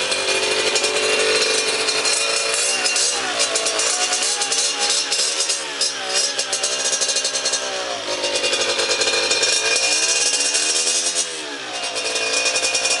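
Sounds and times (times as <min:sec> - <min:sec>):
crackling exhaust: 0:00.0 - 0:13.0
two-stroke engine revving: 0:00.0 - 0:13.0.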